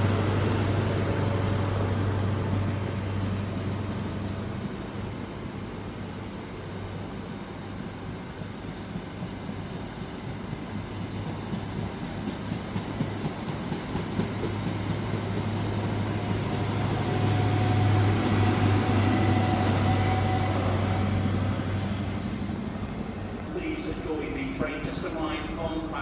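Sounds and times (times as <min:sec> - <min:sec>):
train running past: 0:00.0 - 0:26.0.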